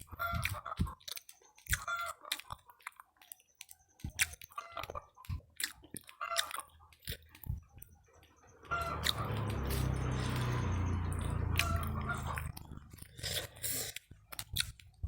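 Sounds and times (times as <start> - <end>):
chewing and crunching snacks: 0.0 - 15.0.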